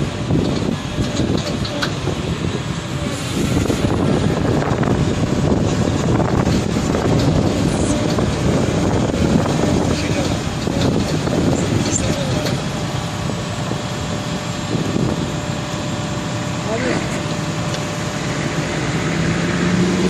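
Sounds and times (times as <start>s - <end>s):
excavator running: 0.0s - 20.0s.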